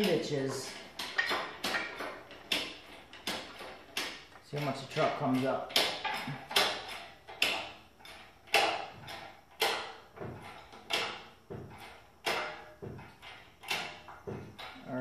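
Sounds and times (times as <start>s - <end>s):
hydraulic hoist pump clacking: 0.0s - 15.0s.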